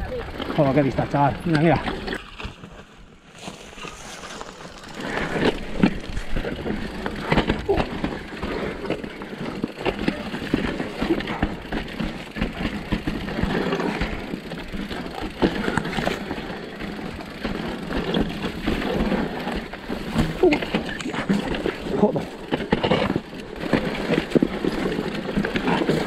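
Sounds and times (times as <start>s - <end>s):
bike knocking and rattling: 0.0s - 26.0s
bike tyres rolling over dirt: 0.0s - 26.0s.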